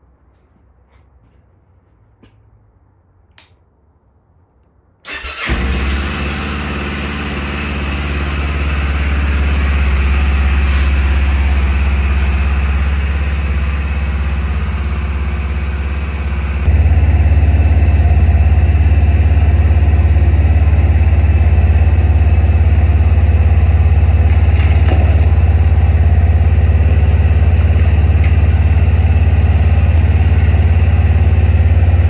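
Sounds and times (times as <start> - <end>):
motorcycle engine cranking and running: 5.1 - 32.0.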